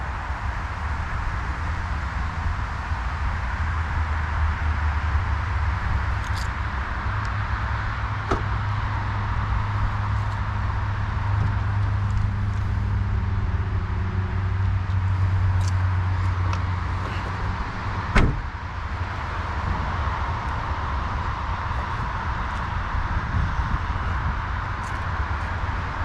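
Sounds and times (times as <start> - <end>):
car hum: 0.0 - 26.0.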